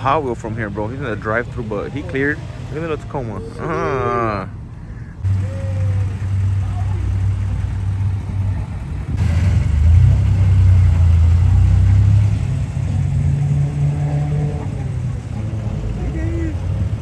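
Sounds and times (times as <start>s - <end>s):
vehicle engine deep rumble: 0.0s - 17.0s.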